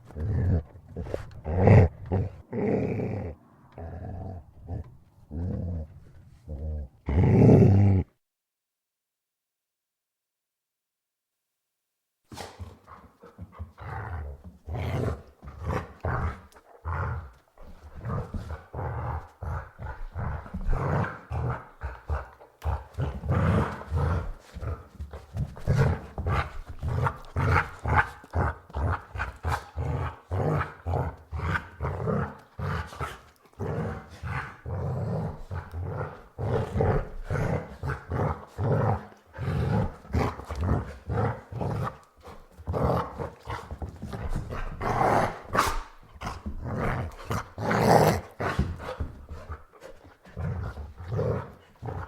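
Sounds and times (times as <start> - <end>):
dog growling and barking: 0.0 - 8.1, 12.3 - 49.5, 50.3 - 52.0.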